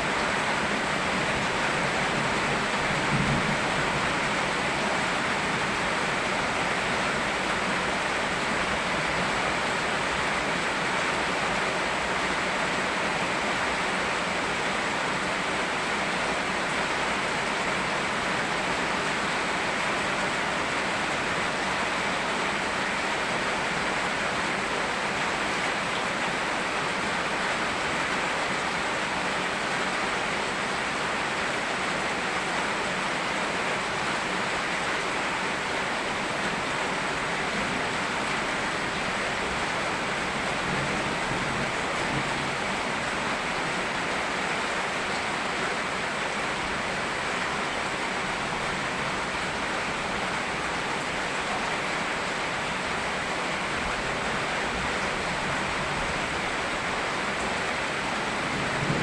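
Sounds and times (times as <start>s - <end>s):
rain: 0.0s - 59.0s
river flowing: 0.0s - 59.0s.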